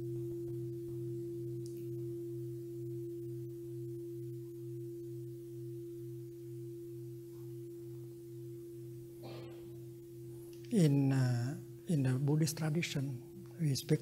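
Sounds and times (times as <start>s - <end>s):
bowl bell ringing: 0.0s - 14.0s.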